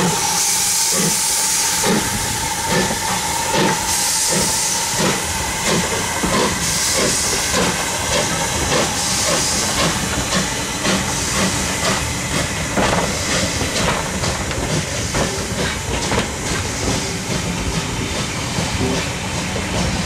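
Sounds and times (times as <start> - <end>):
steam hissing: 0.0 - 20.0
steam locomotive exhaust beats: 0.0 - 20.0
train coaches rolling: 0.0 - 20.0.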